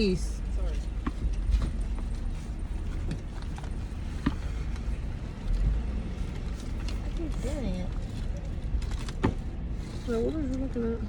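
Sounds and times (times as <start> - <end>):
car rumble: 0.0 - 11.0.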